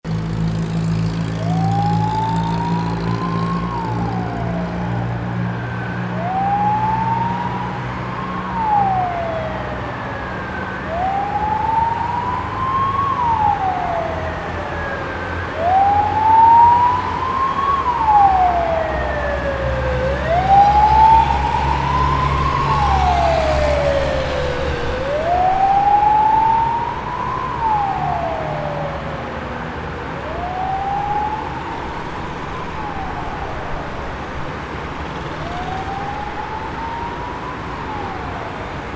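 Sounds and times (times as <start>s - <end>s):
fire engine siren wailing: 0.1s - 38.9s.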